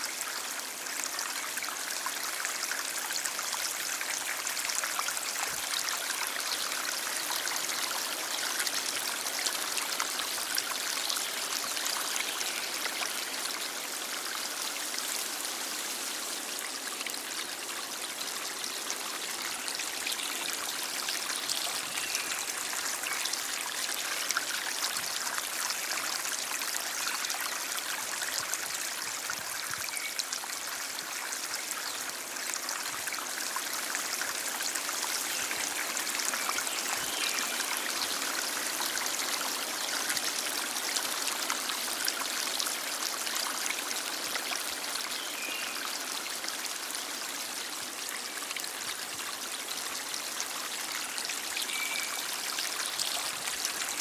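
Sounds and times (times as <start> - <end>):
stream flowing: 0.0 - 54.0
water trickling and splashing: 0.0 - 54.0.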